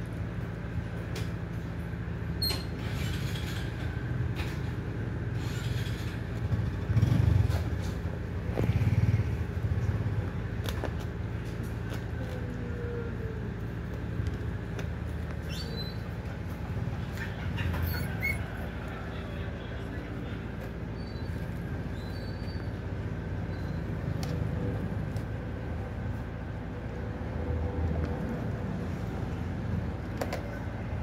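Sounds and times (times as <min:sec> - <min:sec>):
low engine-like hum: 0:00.0 - 0:31.0.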